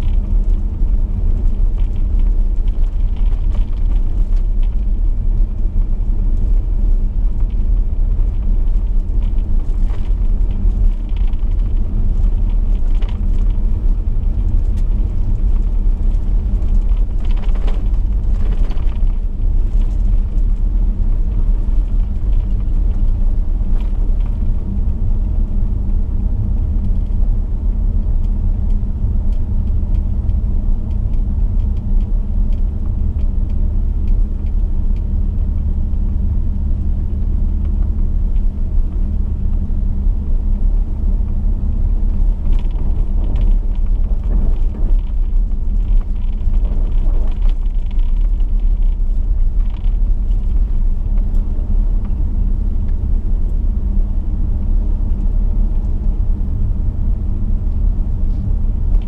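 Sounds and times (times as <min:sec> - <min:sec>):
car driving on gravel road: 0:00.0 - 0:59.0.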